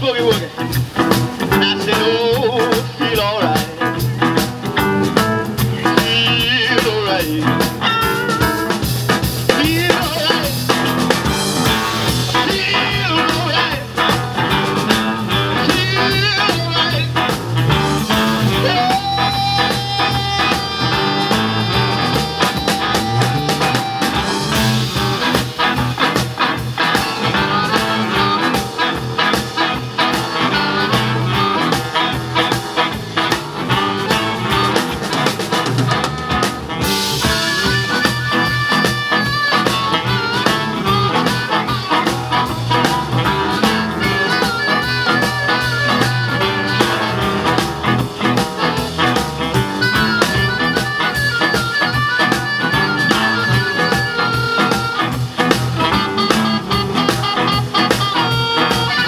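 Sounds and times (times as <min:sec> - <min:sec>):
blues band playing: 0:00.0 - 0:59.0
blues harmonica: 0:00.0 - 0:59.0
tenor saxophone: 0:01.1 - 0:59.0.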